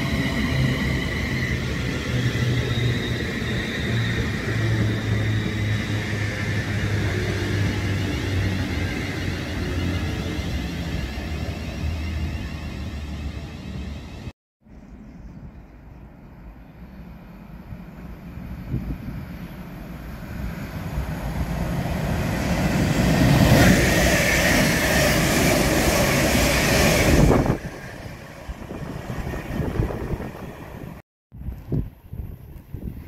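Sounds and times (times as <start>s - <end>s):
train wheels rumbling on rails: 0.0s - 14.3s, 17.3s - 31.0s.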